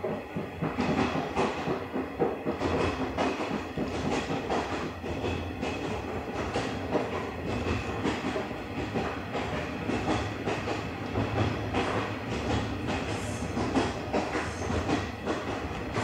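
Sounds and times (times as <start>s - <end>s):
train wheels rumbling on rails: 0.0s - 16.0s
wheels clickety-clack over rail joints: 0.0s - 16.0s.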